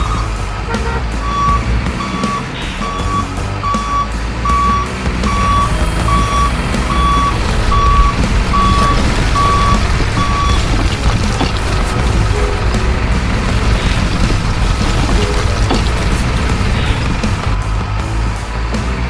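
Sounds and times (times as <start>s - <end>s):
truck reversing alarm beeping: 0.0s - 17.4s
low engine rumble: 0.0s - 19.0s.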